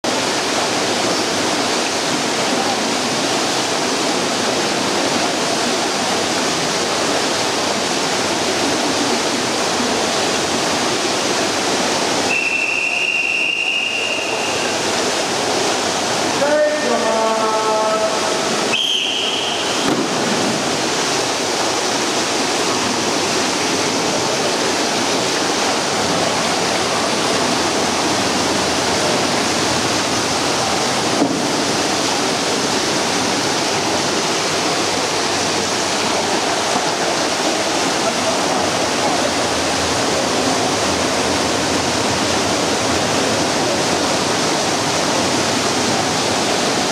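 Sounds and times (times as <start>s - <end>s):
water churning and splashing: 0.0s - 46.9s.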